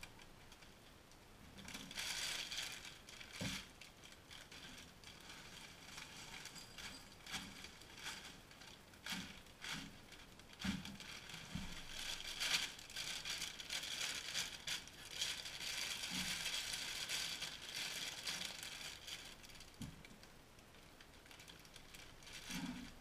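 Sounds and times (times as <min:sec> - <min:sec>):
plastic bag crinkling: 0:01.5 - 0:23.0.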